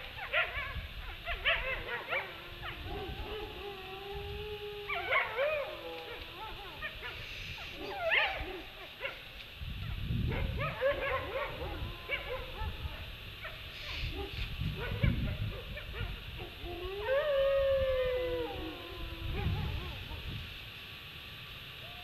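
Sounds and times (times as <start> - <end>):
wolves howling and yipping: 0.0 - 9.2, 10.3 - 20.4.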